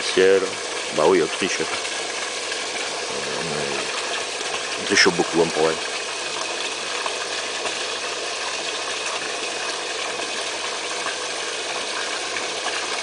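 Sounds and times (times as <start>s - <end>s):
water splashing into a pool: 0.0s - 13.0s.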